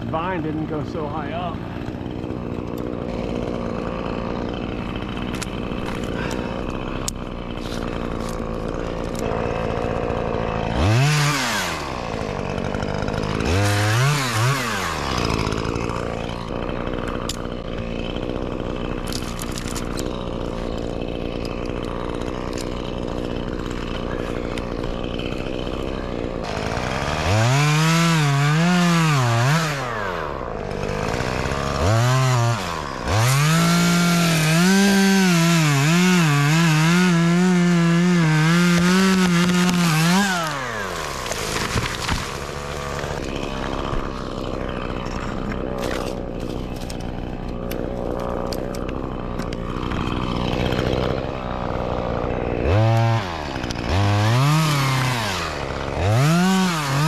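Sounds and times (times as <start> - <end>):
chainsaw cutting tree limb: 0.0 - 57.0
chainsaw revving: 0.0 - 57.0.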